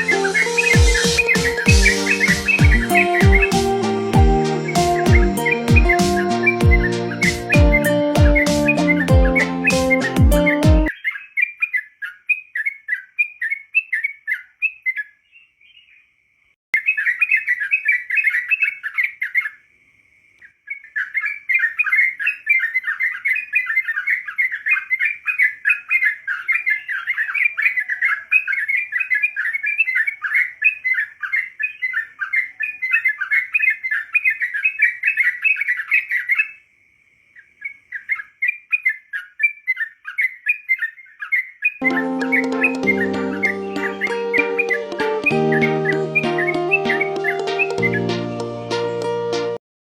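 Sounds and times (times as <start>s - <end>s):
songbird chattering song: 0.0s - 16.1s, 16.8s - 19.6s, 20.4s - 36.6s, 37.4s - 48.5s.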